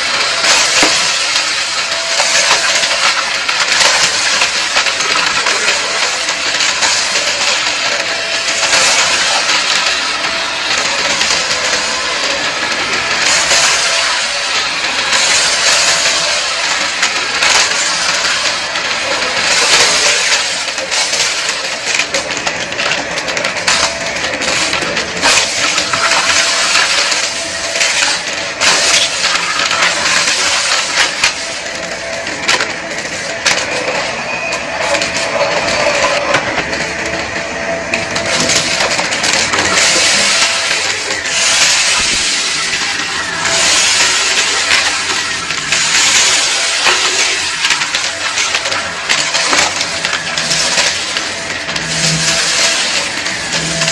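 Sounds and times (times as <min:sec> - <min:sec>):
debris rattling up vacuum nozzle: 0:00.0 - 0:53.9
upright vacuum running: 0:00.0 - 0:53.9.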